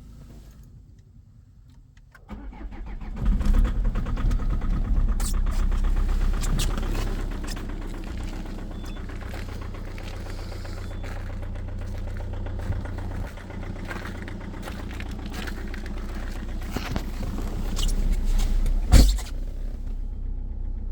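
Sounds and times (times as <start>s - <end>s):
diesel engine idling with knock: 2.3s - 20.9s.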